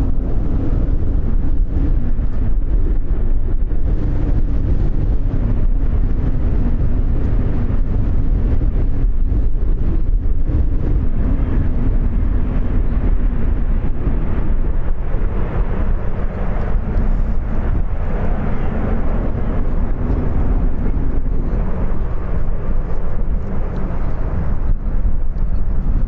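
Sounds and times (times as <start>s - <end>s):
jet engines: 0.0s - 26.0s
wind rumble on microphone: 0.0s - 26.0s.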